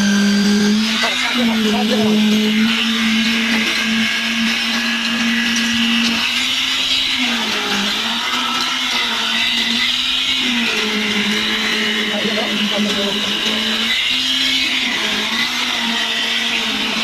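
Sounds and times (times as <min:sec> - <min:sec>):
concrete vibrator motor humming: 0:00.0 - 0:17.0.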